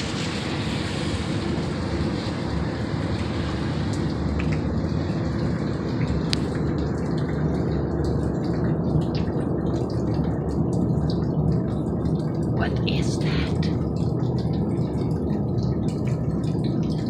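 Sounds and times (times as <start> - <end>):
low rumble from the sky: 0.0 - 17.0.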